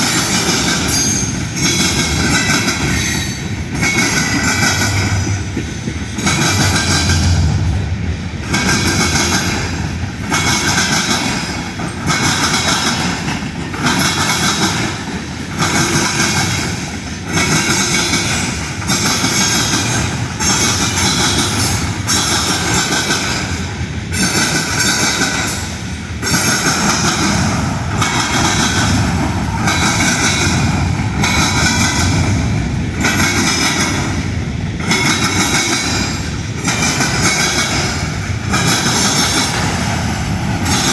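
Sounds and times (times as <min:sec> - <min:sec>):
train rolling past on rails: 0:00.0 - 0:40.9.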